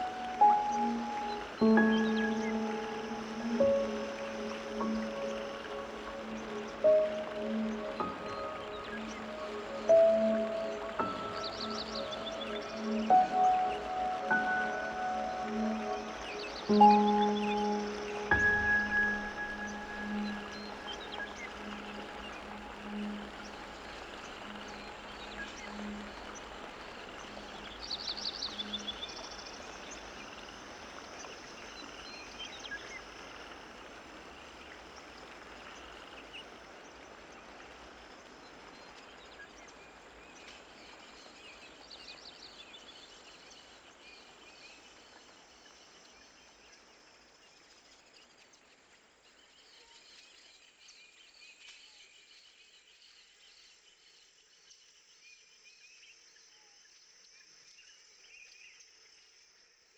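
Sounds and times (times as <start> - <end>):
broad outdoor hiss: 0.0 - 51.6.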